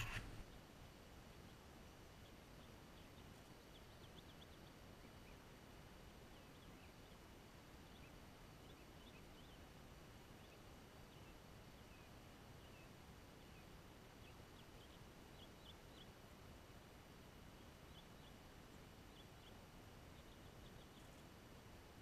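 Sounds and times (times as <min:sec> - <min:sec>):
distant birds chirping: 0:00.0 - 0:22.0.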